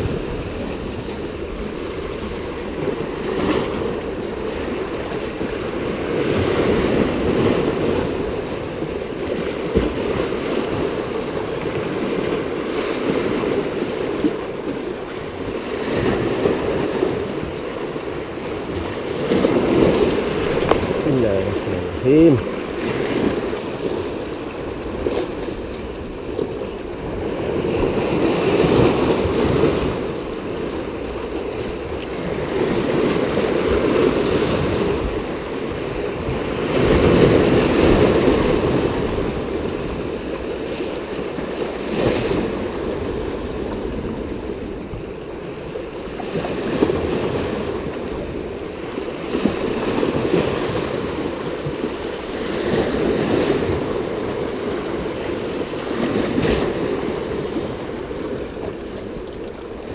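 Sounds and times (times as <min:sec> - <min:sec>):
wind buffeting microphone: 0:00.0 - 0:52.0
sea waves washing ashore: 0:00.0 - 0:59.9.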